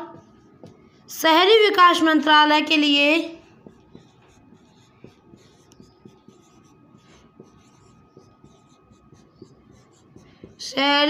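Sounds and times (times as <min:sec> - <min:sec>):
marker scratching on whiteboard: 0:00.0 - 0:11.0.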